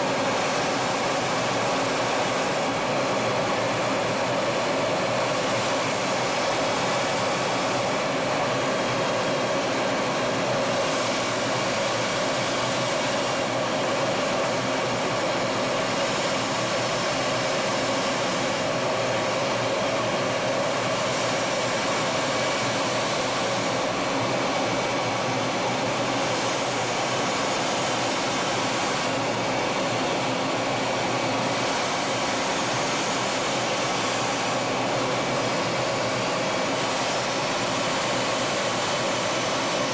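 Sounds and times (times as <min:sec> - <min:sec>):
jet engine noise: 0:00.0 - 0:39.9
rushing air: 0:00.0 - 0:39.9.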